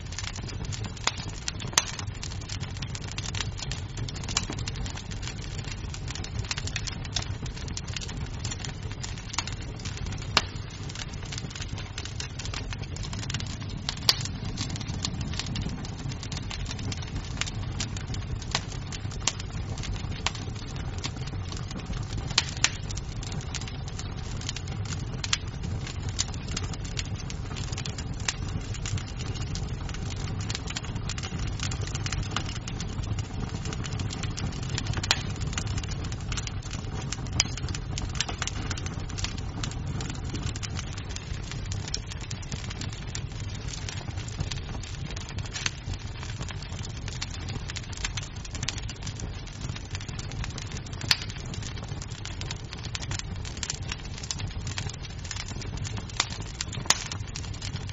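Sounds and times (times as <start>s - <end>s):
low rumble of burning: 0.0s - 57.9s
wood fire crackling: 0.0s - 57.9s.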